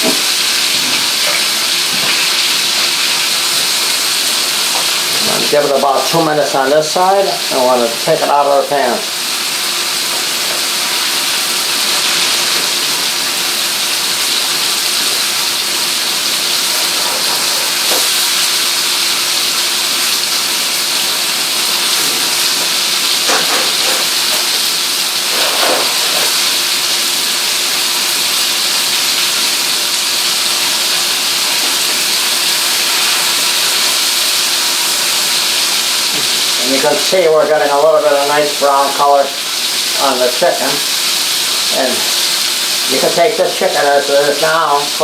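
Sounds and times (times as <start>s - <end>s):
meat sizzling in a frying pan: 0.0s - 45.0s.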